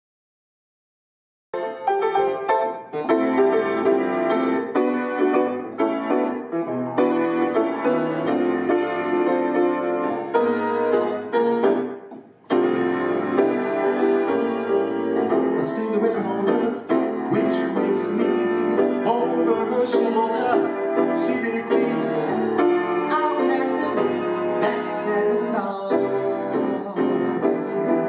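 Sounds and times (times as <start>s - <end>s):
instrumental piano music with bass: 1.6s - 28.0s.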